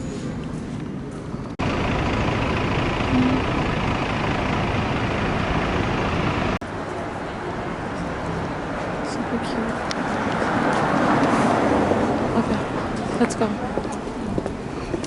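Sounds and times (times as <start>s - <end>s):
road traffic rush: 0.0s - 15.0s.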